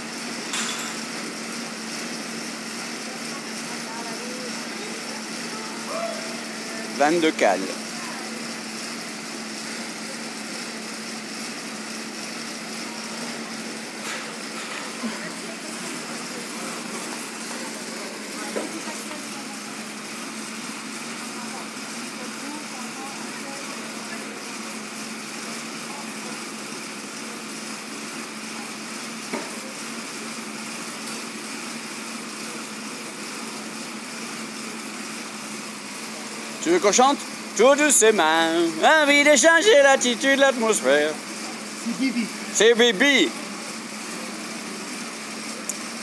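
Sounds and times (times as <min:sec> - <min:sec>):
air bike fan whirring: 0:00.0 - 0:46.0.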